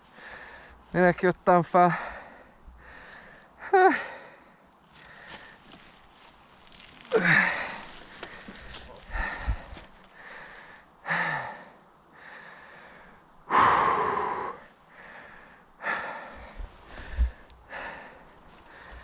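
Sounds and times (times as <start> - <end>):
person breathing heavily: 0.0 - 0.9, 1.9 - 5.8, 6.9 - 19.0.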